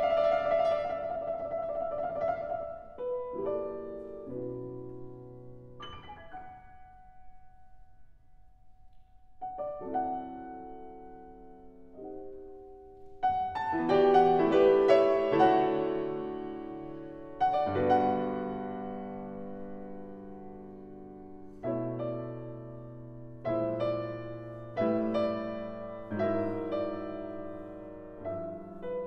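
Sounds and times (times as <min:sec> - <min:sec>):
piano chords: 0:00.0 - 0:29.0.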